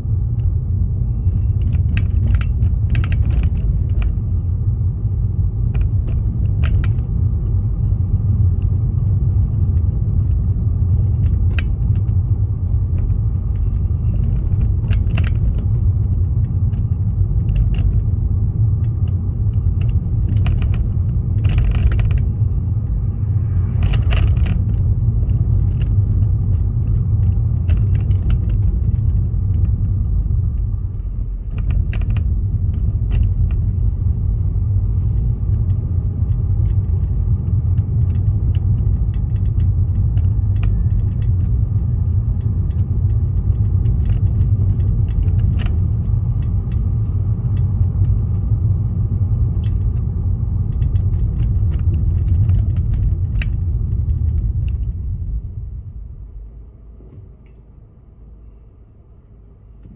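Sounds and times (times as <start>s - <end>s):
car interior rumble: 0.0s - 59.9s
light clicks and rattles: 0.3s - 56.1s.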